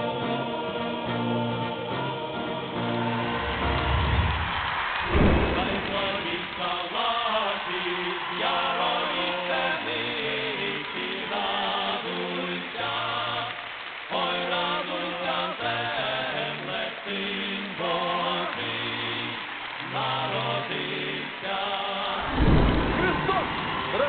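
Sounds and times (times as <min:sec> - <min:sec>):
male voices singing a carol: 0:00.0 - 0:03.3, 0:05.5 - 0:22.4.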